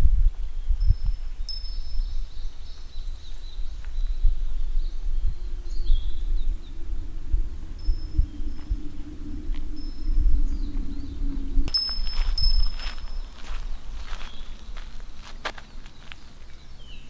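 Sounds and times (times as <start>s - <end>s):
wind buffeting microphone: 0.0s - 17.0s
birds chirping and whistling: 0.4s - 17.0s.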